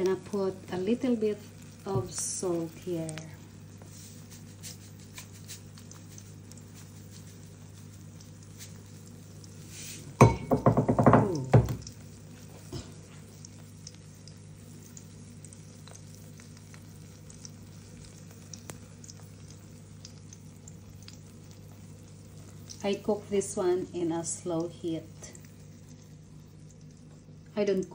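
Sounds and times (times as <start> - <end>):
faint crackling sizzle: 0.0 - 27.9
steady low hum: 0.0 - 27.9.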